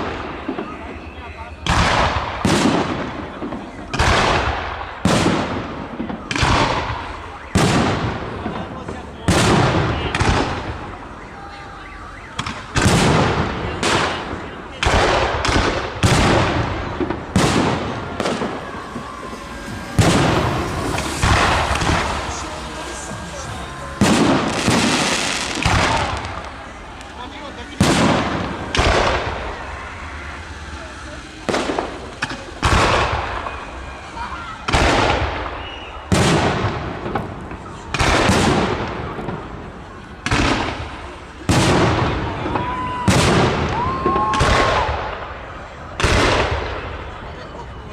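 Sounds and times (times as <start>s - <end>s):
fireworks bursting with echo: 0.0s - 47.8s.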